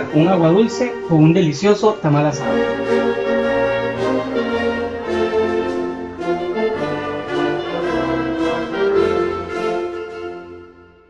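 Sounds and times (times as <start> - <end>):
orchestral music led by brass: 0.0 - 11.0.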